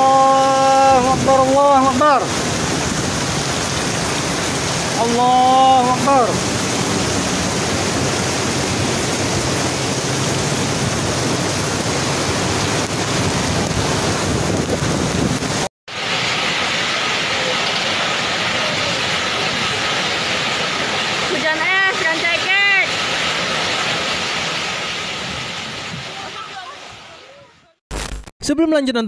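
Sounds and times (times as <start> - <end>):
heavy rain in strong wind: 0.0 - 27.7.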